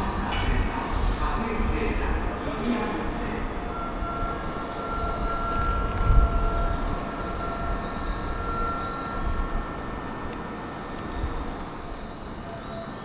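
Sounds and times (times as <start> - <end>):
electric train rumbling and whining: 0.0 - 13.0.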